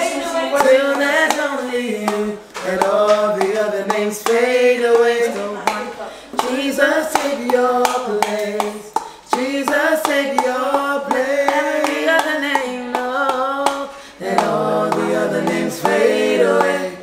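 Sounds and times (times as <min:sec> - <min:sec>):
group singing a cappella: 0:00.0 - 0:17.0
hand claps: 0:00.0 - 0:17.0.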